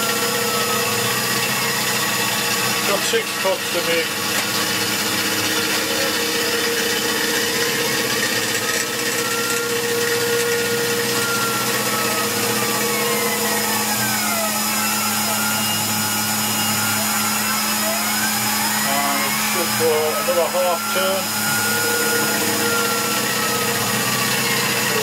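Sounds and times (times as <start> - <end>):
mill spindle cutting: 0.0 - 25.0
motor whine gliding: 0.0 - 25.0.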